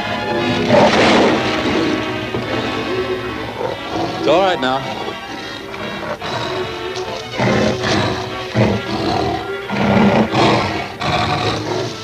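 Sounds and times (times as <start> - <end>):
background music: 0.0 - 12.0
tiger roaring and snarling: 0.2 - 12.0.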